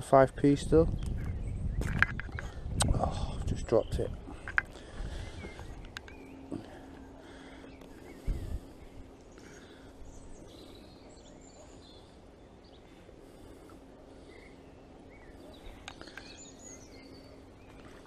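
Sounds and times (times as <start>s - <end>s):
outdoor background hiss: 0.0s - 18.0s
small birds chirping: 0.0s - 18.0s.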